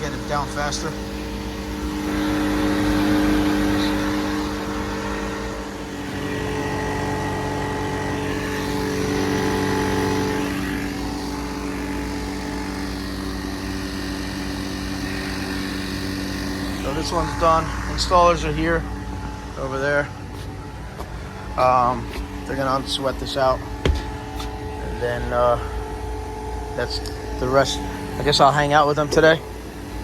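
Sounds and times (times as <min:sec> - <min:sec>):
recovery machine motor hum: 0:00.0 - 0:30.0.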